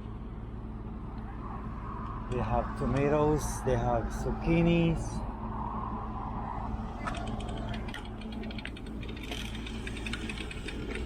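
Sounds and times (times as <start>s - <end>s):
traffic: 0.0s - 11.0s
wind: 0.0s - 11.0s.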